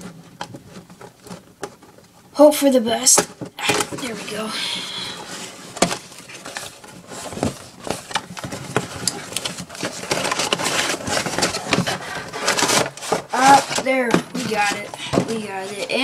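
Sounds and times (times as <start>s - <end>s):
packaging rustling and scraping: 0.0s - 2.3s, 2.9s - 16.0s.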